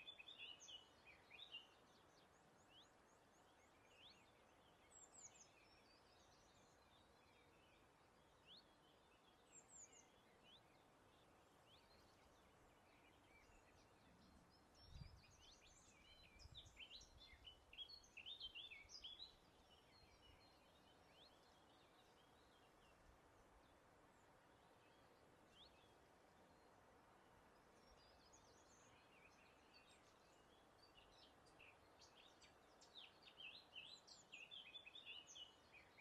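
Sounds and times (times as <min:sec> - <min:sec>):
faint background hiss: 0:00.0 - 0:36.0
small birds chirping: 0:00.0 - 0:36.0.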